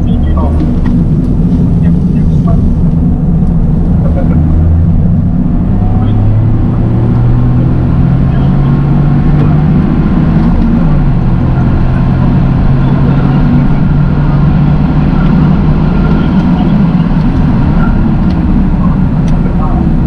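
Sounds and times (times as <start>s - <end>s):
car engine pulling: 0.0s - 20.0s
tyre and road noise: 0.0s - 20.0s.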